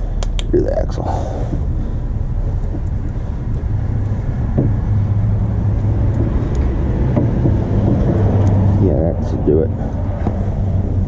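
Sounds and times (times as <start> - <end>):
engine rumbling and humming: 0.0 - 11.0.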